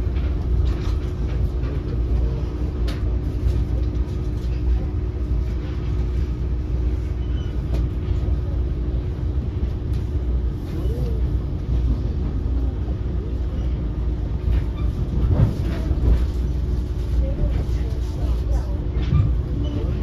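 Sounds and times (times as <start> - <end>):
constant hum: 0.0 - 20.0
moving train rumble: 0.0 - 20.0.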